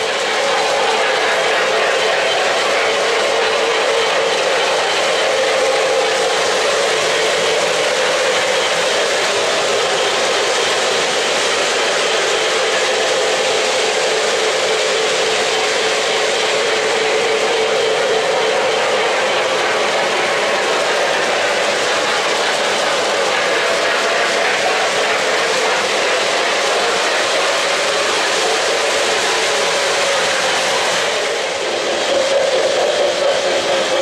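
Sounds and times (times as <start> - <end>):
model trains whirring on track: 0.0 - 34.0.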